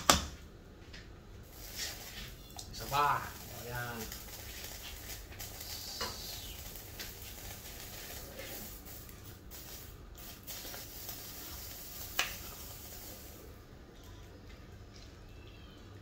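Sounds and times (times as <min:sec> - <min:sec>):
steady low hiss: 0:00.4 - 0:16.0.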